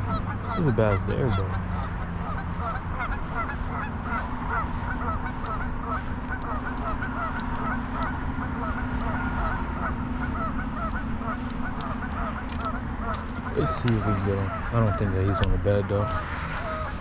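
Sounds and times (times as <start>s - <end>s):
geese honking: 0.0s - 17.0s
steady low rumble: 0.0s - 17.0s.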